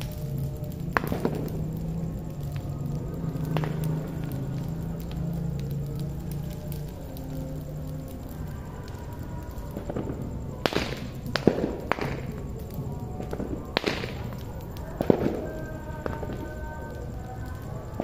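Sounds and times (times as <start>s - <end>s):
bonfire burning: 0.0s - 18.0s
fire cracks and pops: 0.0s - 18.0s.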